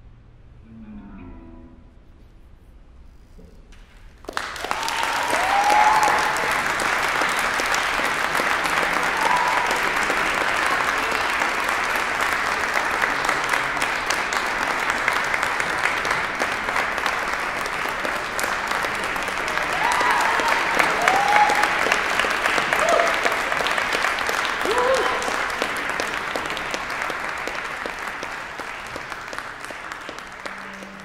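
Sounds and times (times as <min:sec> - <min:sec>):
audience applause: 0:04.2 - 0:31.0.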